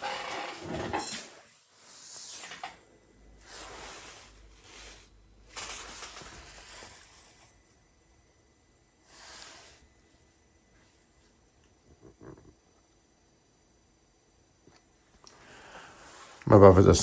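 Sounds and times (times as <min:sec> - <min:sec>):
faint electronic hissing bursts: 0:01.4 - 0:17.0.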